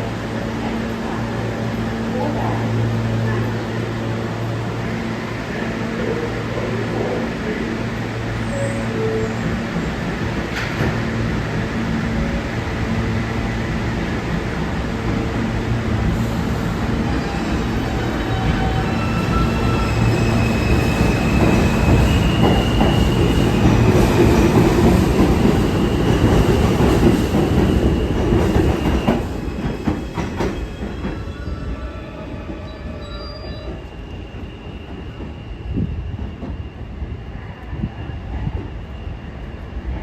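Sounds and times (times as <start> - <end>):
subway train passing: 0.0 - 40.0.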